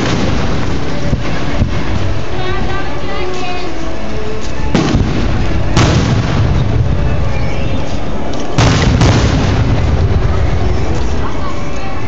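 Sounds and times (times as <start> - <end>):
fireworks booming: 0.0 - 3.0, 4.7 - 11.5
low rumble: 0.0 - 12.0.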